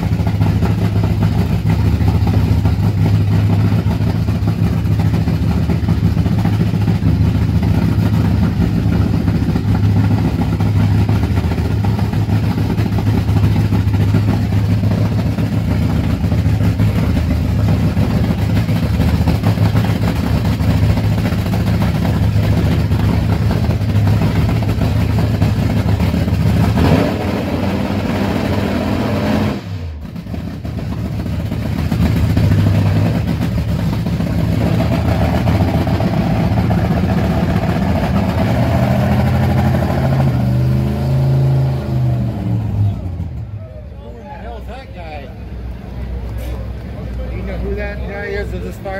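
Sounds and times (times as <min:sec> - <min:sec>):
loud drag racing engine: 0:00.0 - 0:48.9.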